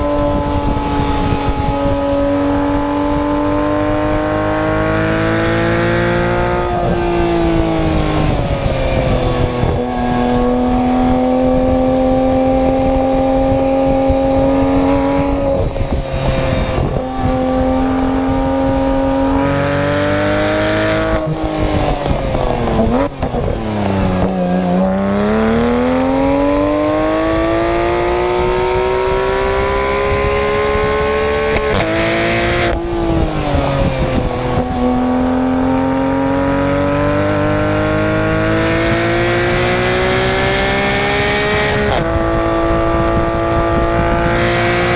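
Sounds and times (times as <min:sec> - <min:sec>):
car engine at high revs: 0:00.0 - 0:44.9.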